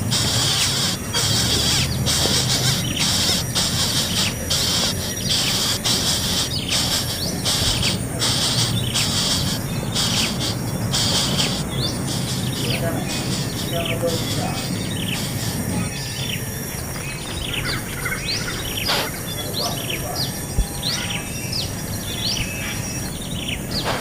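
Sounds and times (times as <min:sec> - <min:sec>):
bird chirps: 0:00.0 - 0:24.0
high buzzing trill: 0:00.0 - 0:24.0.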